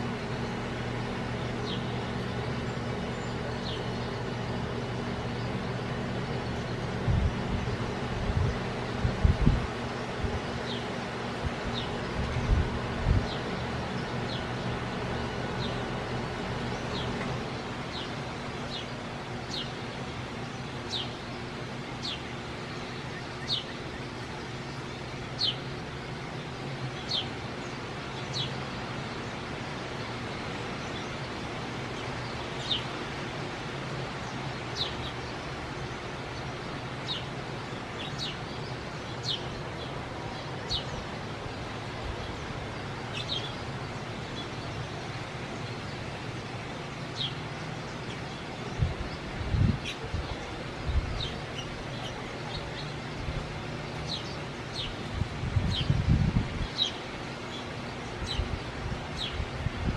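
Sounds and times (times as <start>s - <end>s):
low background hum: 0.0s - 59.9s.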